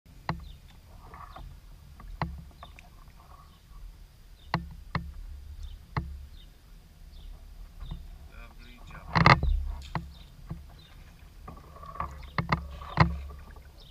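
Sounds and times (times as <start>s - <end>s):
water noise: 0.1s - 13.9s.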